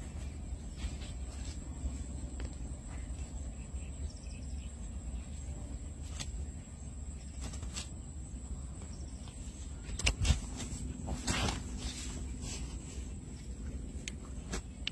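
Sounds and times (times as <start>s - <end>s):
low steady rumble: 0.0s - 14.9s.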